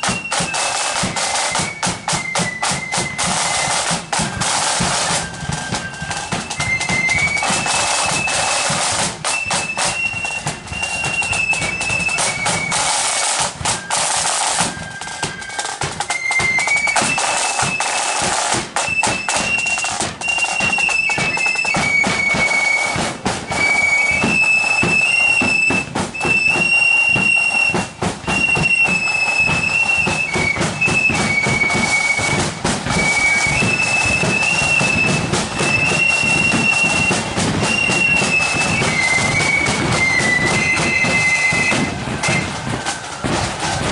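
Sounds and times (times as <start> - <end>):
flutes playing melody: 0.0 - 43.9
snare and bass drums: 0.0 - 43.9.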